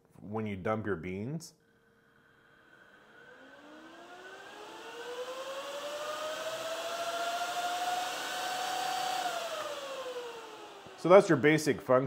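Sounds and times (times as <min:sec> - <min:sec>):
cooling fan whine: 0:02.1 - 0:11.8.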